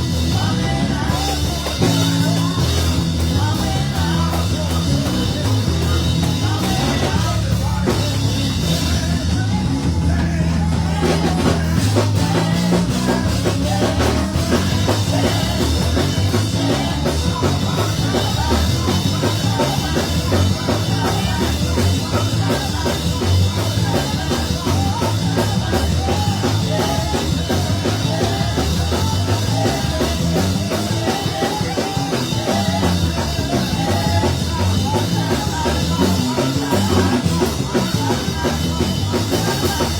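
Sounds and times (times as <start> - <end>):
band playing: 0.0 - 39.9
bass notes: 0.0 - 39.9
drum kit beat: 0.0 - 39.9.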